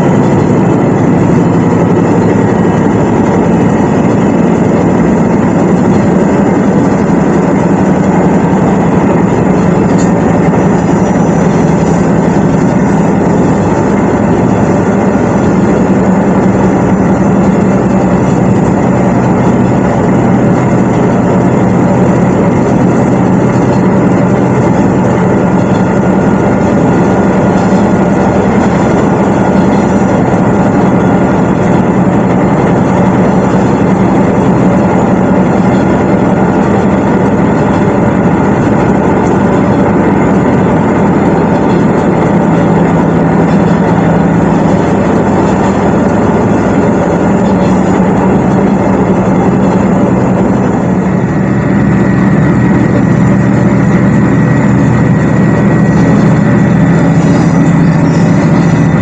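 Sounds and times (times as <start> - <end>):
diesel engine droning: 0.0 - 59.0
wheels rumbling on track: 0.0 - 59.0.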